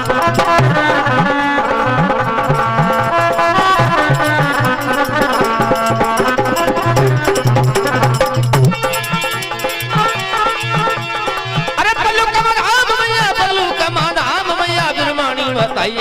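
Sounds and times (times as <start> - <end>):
hand drum rhythm: 0.0 - 16.0
sustained melody notes: 0.0 - 16.0.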